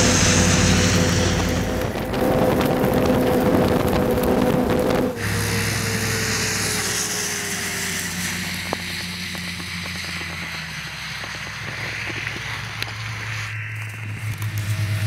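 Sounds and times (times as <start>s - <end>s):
snowmobile engine: 0.0s - 15.0s.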